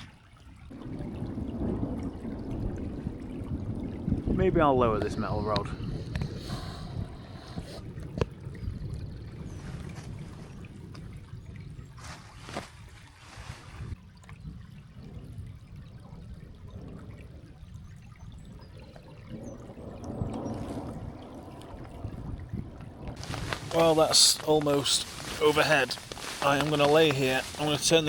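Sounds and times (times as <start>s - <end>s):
rain on a tent: 0.0s - 28.0s
low thunder rumble: 0.7s - 12.0s, 14.4s - 28.0s.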